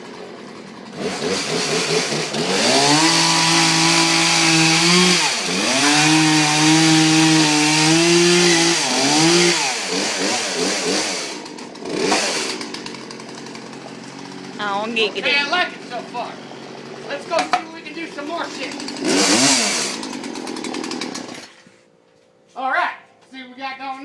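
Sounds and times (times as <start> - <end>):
chainsaw revving: 0.0 - 21.7.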